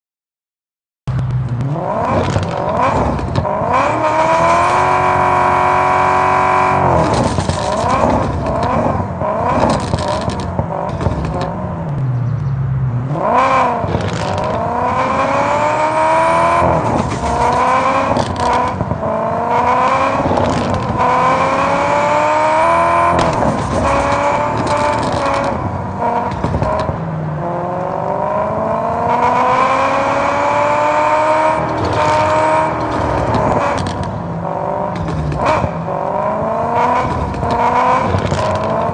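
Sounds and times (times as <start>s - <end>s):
car engine revving hard: 1.6s - 11.9s, 13.0s - 38.9s.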